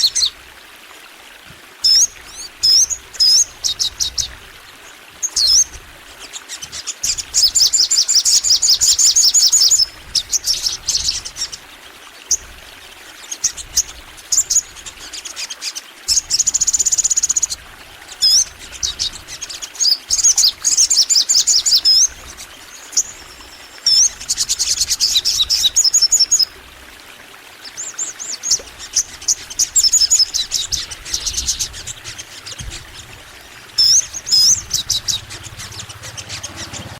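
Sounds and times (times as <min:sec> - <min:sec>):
bird singing rapid trills: 0:05.2 - 0:26.6, 0:27.6 - 0:36.9.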